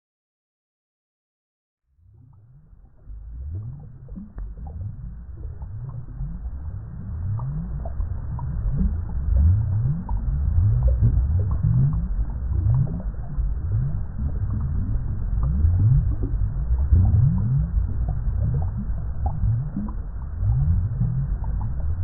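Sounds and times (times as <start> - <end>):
water bubbling: 2.2 - 22.0.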